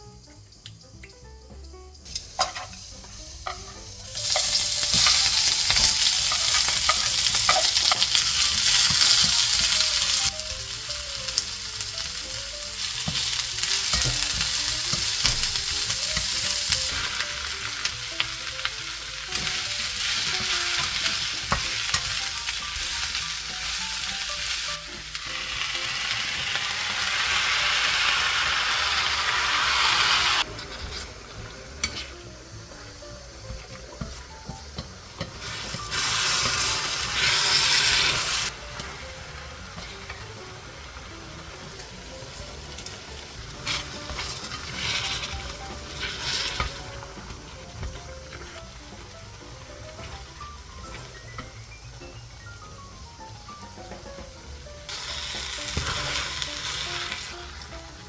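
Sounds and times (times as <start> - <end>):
food sizzling in a hot pan: 2.0 - 58.0.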